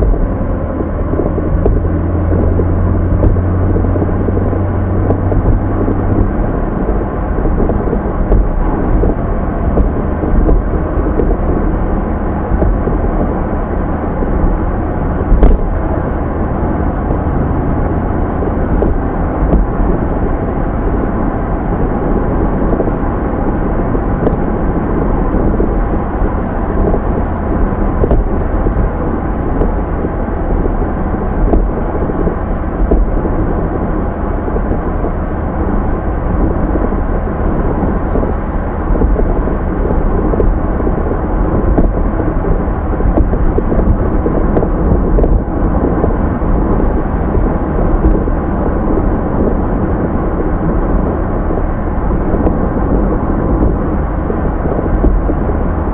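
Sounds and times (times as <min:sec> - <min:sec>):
car road noise rumble: 0:00.0 - 0:55.9.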